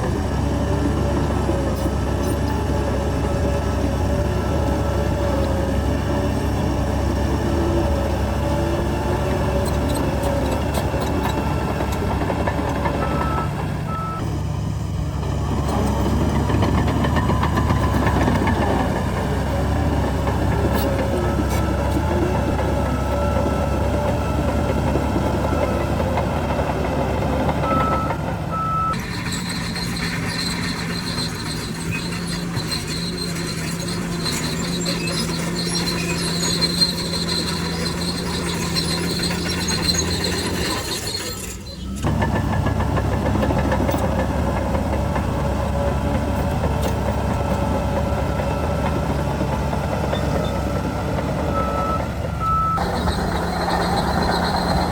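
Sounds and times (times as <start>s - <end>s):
diesel machinery rumbling: 0.0s - 54.9s.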